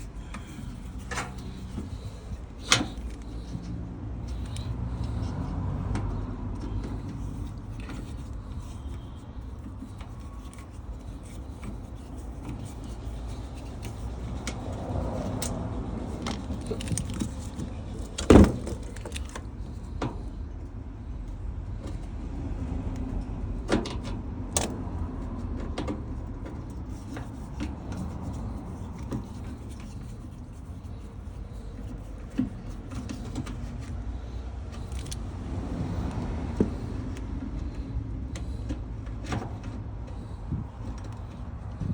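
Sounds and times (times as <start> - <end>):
parts clicking and rattling: 0.0 - 22.2, 22.9 - 41.9.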